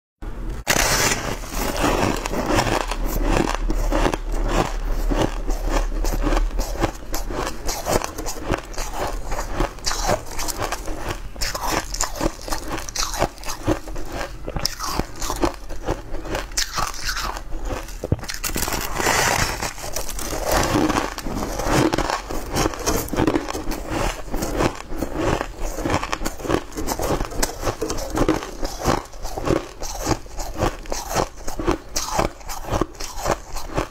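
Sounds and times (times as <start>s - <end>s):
person chewing with crisp crunches: 0.7s - 33.9s.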